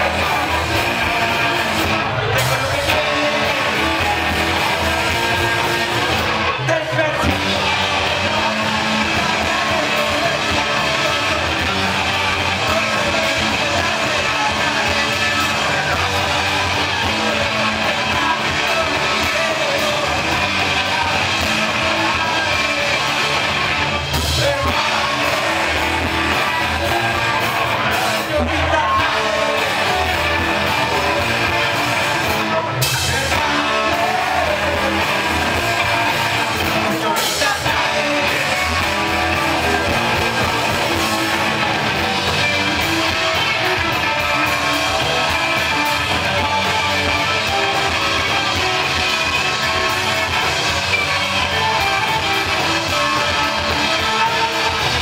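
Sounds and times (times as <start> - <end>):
drums: 0.0 - 55.0
electric guitars: 0.0 - 55.0
person singing: 0.0 - 55.0.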